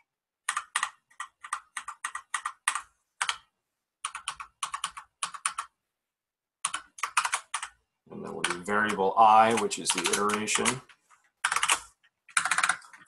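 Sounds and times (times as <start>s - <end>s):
typing on computer keyboard: 0.4s - 5.8s, 6.6s - 13.0s.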